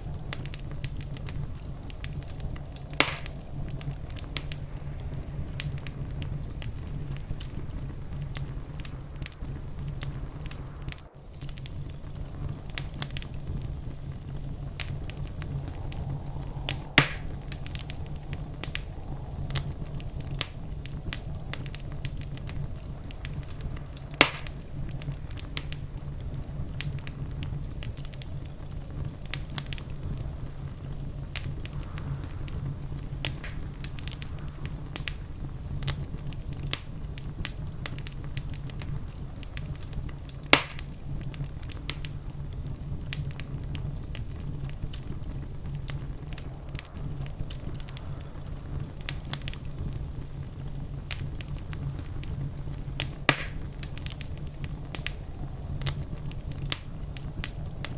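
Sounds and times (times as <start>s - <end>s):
low rumble: 0.0s - 57.9s
sharp fire pops: 0.0s - 57.9s
wood fire crackling: 0.0s - 57.9s.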